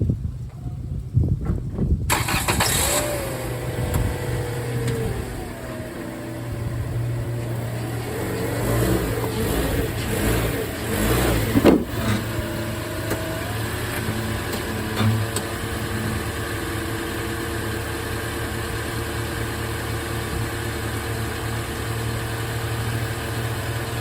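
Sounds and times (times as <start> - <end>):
car engine starting and running: 0.1 - 24.0.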